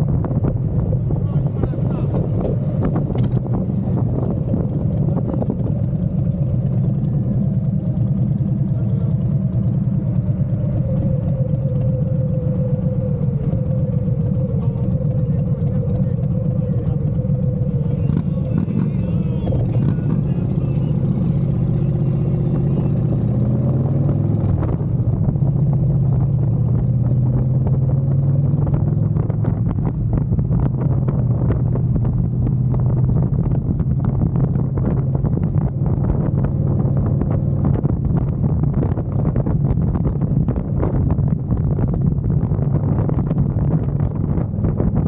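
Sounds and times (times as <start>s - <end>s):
motorcycle engine running: 0.0s - 45.0s
wind buffeting microphone: 0.0s - 45.0s.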